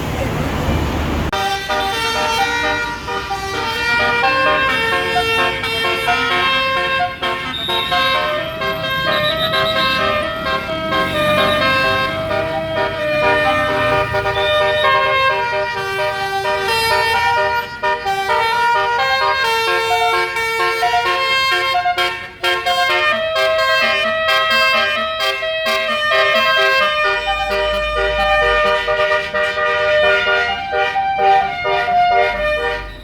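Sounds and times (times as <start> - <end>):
bus horn playing a melody: 1.3 - 33.0.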